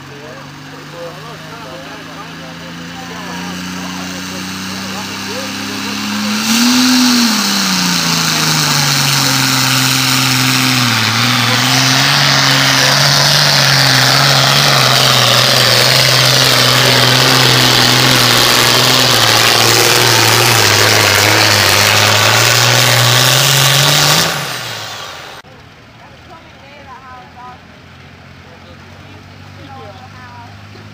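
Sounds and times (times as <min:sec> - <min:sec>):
tractor diesel engine running flat out: 0:00.0 - 0:30.9.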